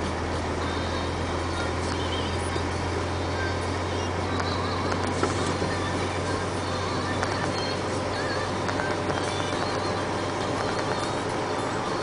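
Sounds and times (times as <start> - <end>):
diesel engine droning: 0.0 - 12.0
road noise: 0.0 - 12.0.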